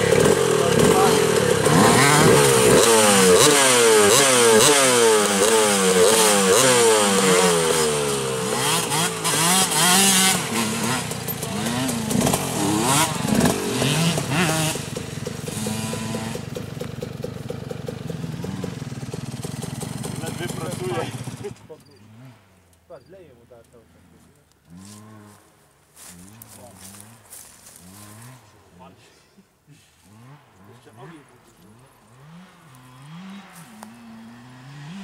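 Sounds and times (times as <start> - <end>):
dirt bike engine revving: 0.0 - 22.6, 24.6 - 29.1, 30.0 - 35.0.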